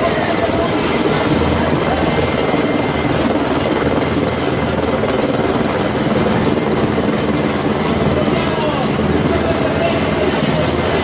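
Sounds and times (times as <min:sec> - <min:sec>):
large crowd din: 0:00.0 - 0:11.0.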